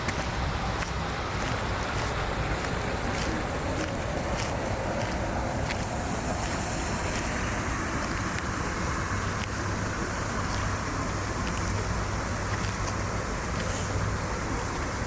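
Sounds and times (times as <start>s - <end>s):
low vehicle hum: 0.0s - 15.0s.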